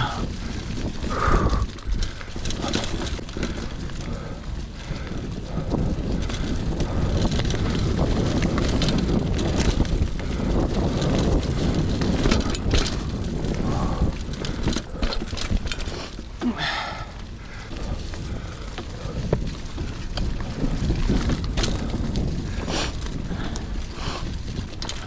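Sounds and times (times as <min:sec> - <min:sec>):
bike clicks and knocks over bumps: 0:00.0 - 0:25.0
bike tyres on dirt trail: 0:00.0 - 0:25.0
wind rumble on microphone: 0:00.0 - 0:25.0.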